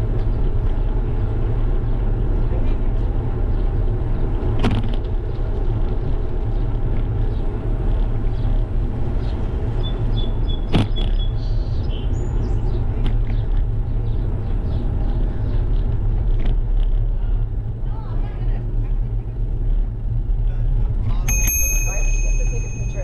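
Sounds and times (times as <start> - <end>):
wind and road noise rumble: 0.0 - 23.0.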